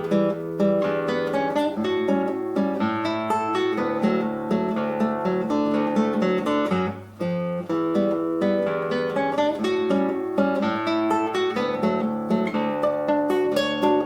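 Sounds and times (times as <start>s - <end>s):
classical guitar fingerstyle: 0.0s - 14.0s.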